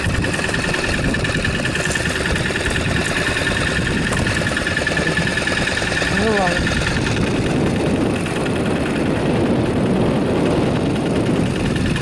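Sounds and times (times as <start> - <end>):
boat engine droning: 0.0 - 12.0
constant high whine: 0.0 - 12.0.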